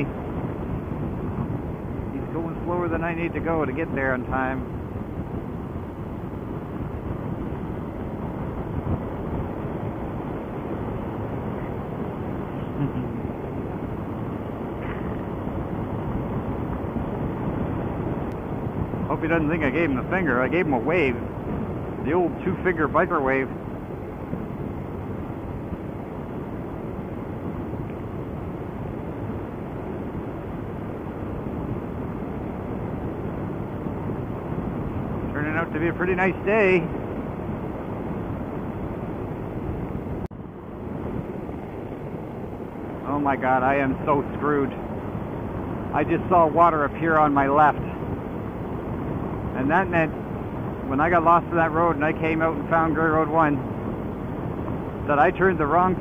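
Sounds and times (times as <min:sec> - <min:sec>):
scooter road noise: 0:00.0 - 0:56.0
wind and riding noise: 0:00.0 - 0:56.0.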